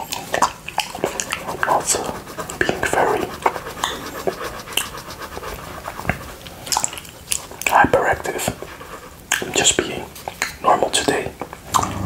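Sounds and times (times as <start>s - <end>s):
wet licking and smacking: 0.0s - 10.6s.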